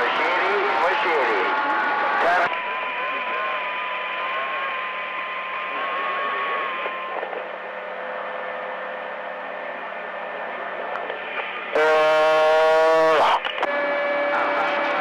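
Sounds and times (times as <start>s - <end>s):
radio static hiss: 0.0s - 8.8s, 9.4s - 15.0s.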